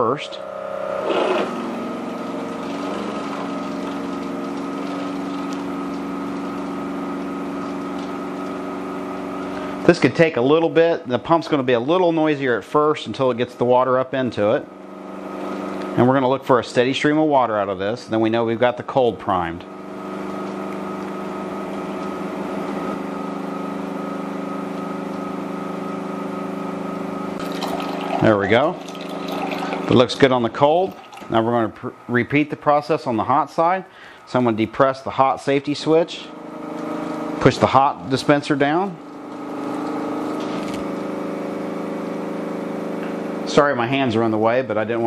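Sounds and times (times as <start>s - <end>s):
water cooler pump humming: 0.0s - 45.0s.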